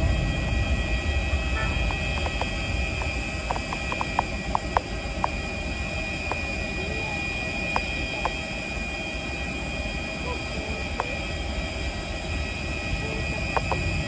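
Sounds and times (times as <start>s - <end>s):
distant jet engines rumbling: 0.0s - 14.0s.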